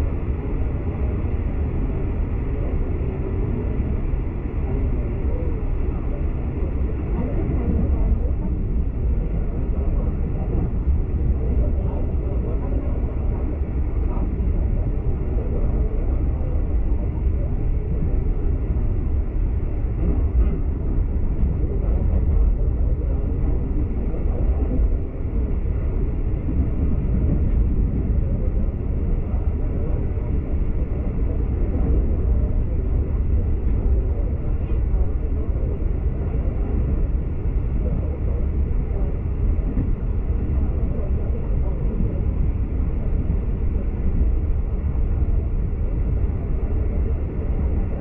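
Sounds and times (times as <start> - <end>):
train rumble from inside carriage: 0.0 - 48.0.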